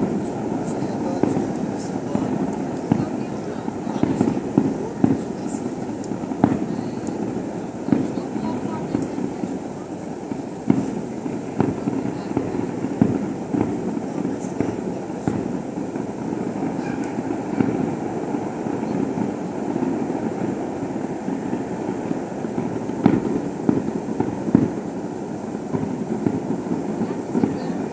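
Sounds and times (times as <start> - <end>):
fireworks bursts rumbling: 0.0 - 27.9
sharp fireworks bangs: 0.0 - 27.9.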